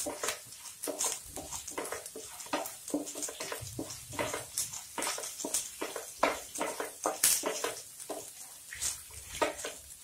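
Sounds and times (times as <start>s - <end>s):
wooden spatula scraping a pan: 0.0s - 10.0s.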